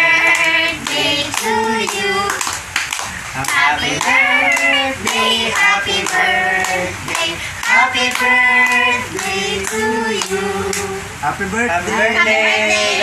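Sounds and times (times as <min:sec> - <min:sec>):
children and adults singing: 0:00.0 - 0:02.7, 0:03.3 - 0:11.2, 0:11.9 - 0:13.0
hands clapping: 0:00.3 - 0:10.9.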